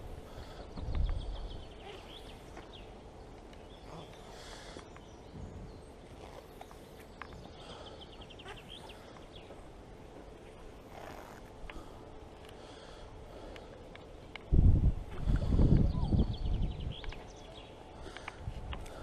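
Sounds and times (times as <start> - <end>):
small birds singing trills: 0.0 - 14.5, 15.1 - 19.0.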